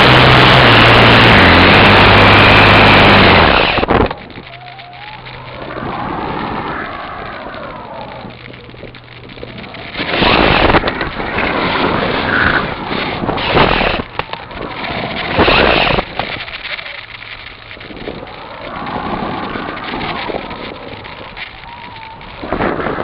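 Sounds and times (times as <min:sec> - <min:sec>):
faint whine: 0:00.0 - 0:23.0
wind rushing over camera: 0:00.0 - 0:23.0.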